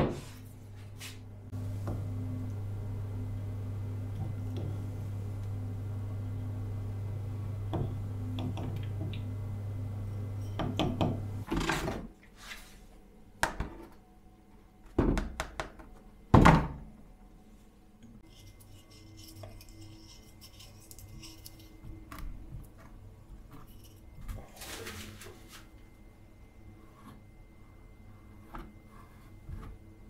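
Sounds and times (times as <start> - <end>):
steady low hum: 0.0 - 14.9, 15.9 - 30.0.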